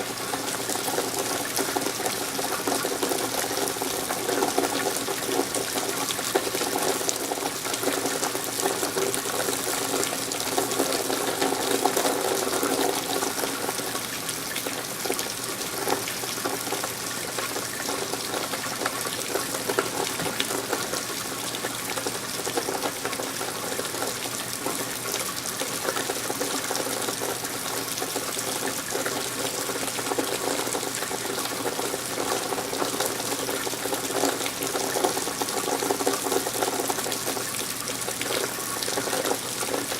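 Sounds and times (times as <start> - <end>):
running rainwater: 0.0 - 39.9
steady rain: 0.0 - 39.9.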